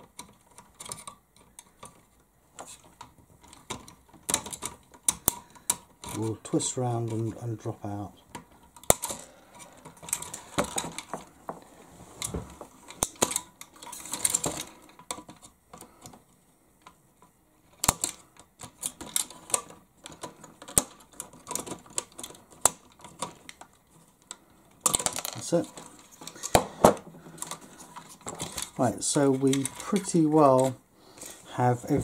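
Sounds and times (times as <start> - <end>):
plastic parts clicking and tapping: 0.0 - 32.0.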